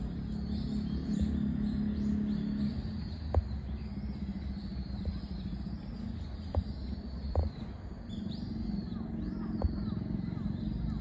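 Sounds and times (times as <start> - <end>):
distant traffic rumble: 0.0 - 11.0
faint bird chirps: 0.0 - 11.0.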